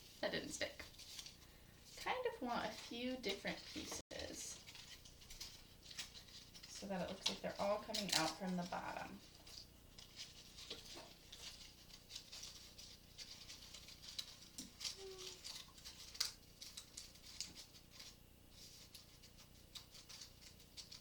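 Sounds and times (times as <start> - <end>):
dried leaves crackling and rustling: 0.0 - 21.0.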